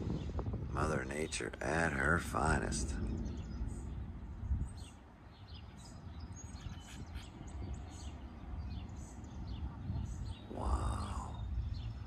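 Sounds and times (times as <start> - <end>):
birds chirping: 0.0 - 12.0
low background rumble: 0.0 - 12.0.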